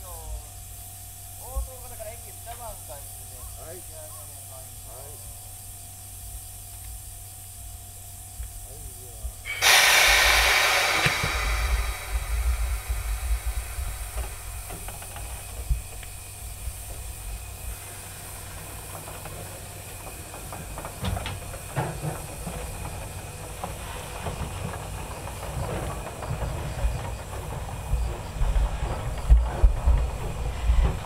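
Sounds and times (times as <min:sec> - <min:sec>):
low rumble of locomotive: 0:00.0 - 0:31.0
steam hissing: 0:00.0 - 0:31.0.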